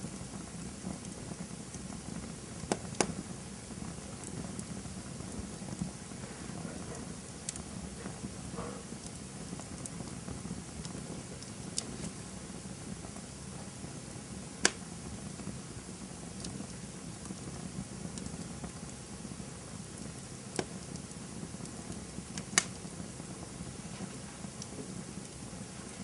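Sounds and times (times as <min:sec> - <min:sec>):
campfire burning: 0:00.0 - 0:26.0
fire crackles: 0:00.0 - 0:26.0
sharp fire pops: 0:00.0 - 0:26.0.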